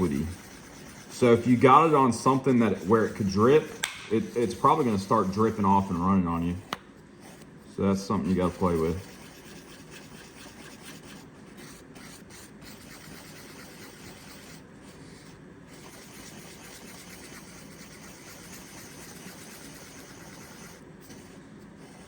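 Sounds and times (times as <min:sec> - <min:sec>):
tool scraping while stirring epoxy: 0:00.0 - 0:14.6, 0:15.8 - 0:22.0.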